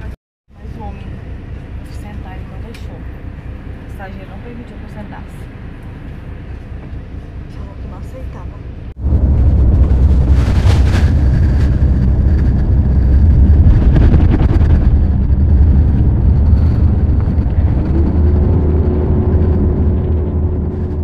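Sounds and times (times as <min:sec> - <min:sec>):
bus rumbling on road: 0:00.0 - 0:21.0.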